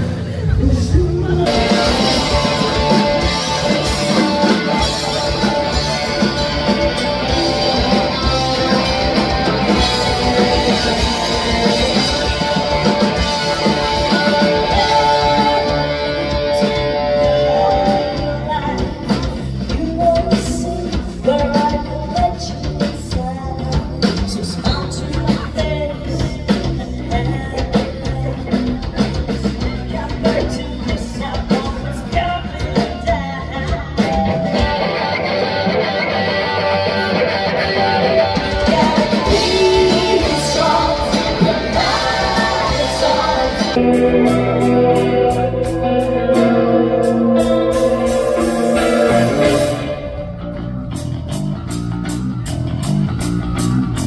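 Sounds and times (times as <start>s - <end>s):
person singing: 0.0s - 35.6s, 36.2s - 50.6s
live rock band playing: 0.0s - 54.0s.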